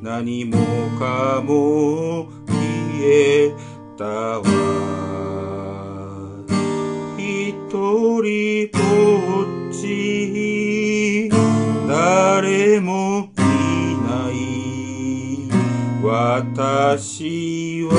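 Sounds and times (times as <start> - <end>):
acoustic guitar strumming chords: 0.0 - 17.9.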